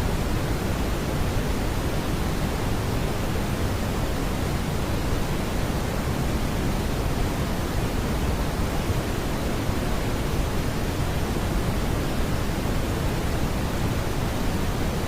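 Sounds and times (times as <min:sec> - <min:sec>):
brown noise hiss: 0:00.0 - 0:15.0.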